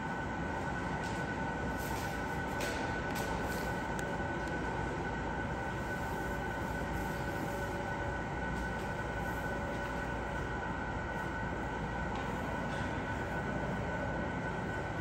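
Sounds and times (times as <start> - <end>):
high whine: 0.0 - 15.0
mechanical hum: 0.0 - 15.0.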